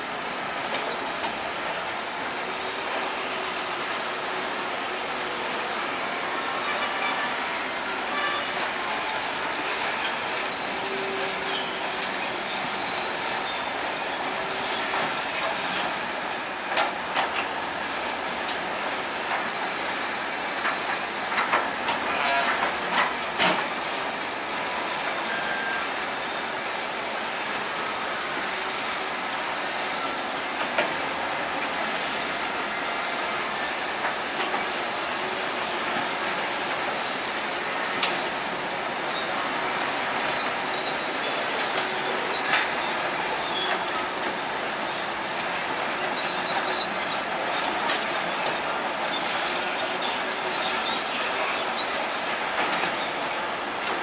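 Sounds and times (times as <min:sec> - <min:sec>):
steel tracks clattering and squealing: 0:00.0 - 0:54.0.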